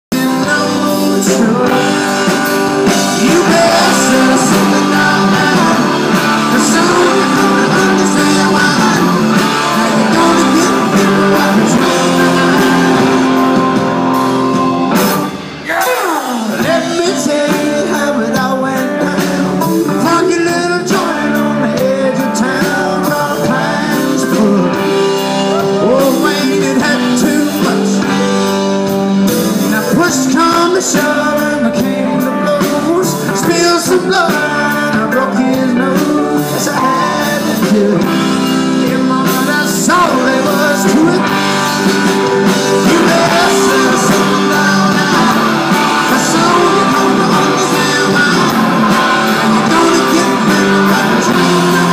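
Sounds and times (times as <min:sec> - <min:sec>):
drums: 0:00.0 - 0:51.9
man singing lead vocal: 0:00.0 - 0:51.9
overdriven electric guitars: 0:00.1 - 0:51.9.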